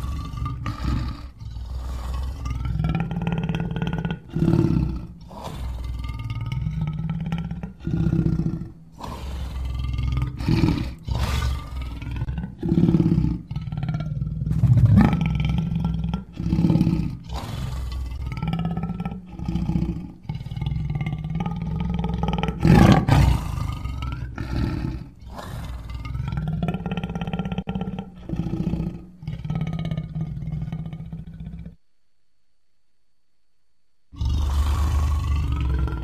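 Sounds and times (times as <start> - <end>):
lion roaring: 0.0 - 31.8, 34.2 - 36.0.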